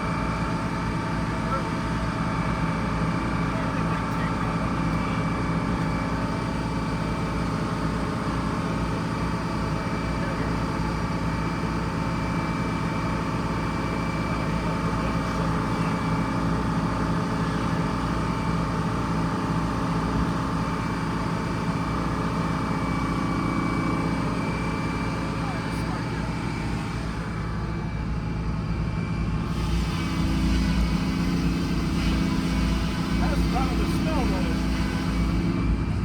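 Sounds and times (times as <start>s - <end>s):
bus engine running steadily: 0.0s - 36.0s.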